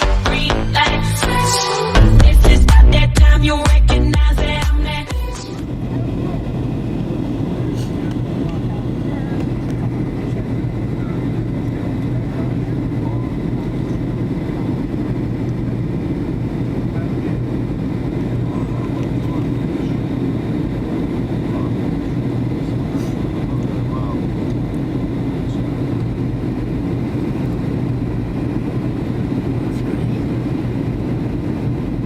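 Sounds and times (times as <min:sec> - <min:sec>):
airplane cabin engine drone: 0:00.9 - 0:32.0.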